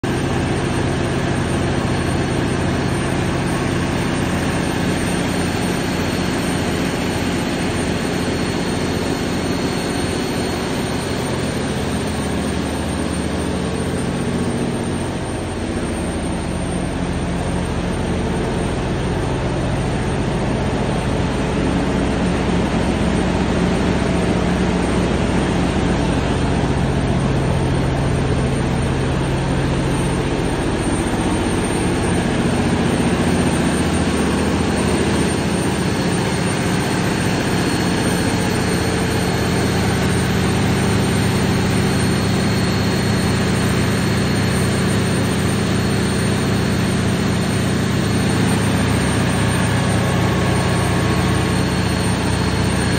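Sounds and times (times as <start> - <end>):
diesel generator engine drone: 0.0 - 52.9.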